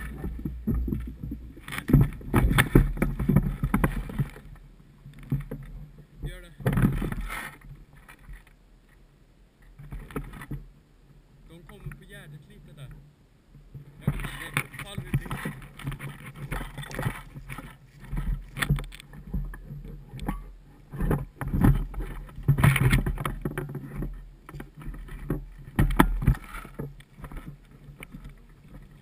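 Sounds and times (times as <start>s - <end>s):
knocks and rubbing on microphone: 0.0s - 8.5s, 13.6s - 29.0s.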